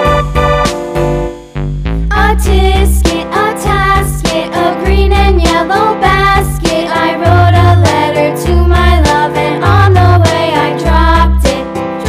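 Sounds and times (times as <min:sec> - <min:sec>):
upbeat children's music: 0:00.0 - 0:12.0.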